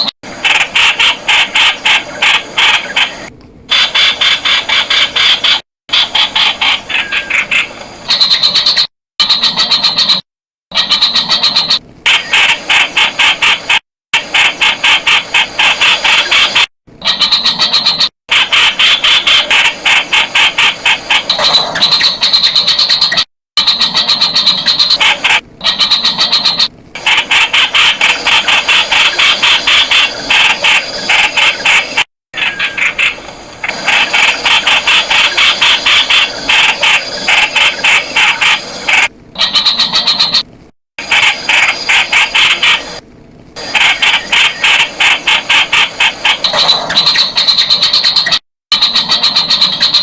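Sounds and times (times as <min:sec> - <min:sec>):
bird calling rapid notes: 0:00.0 - 0:13.8, 0:14.7 - 0:40.5, 0:43.6 - 0:50.0.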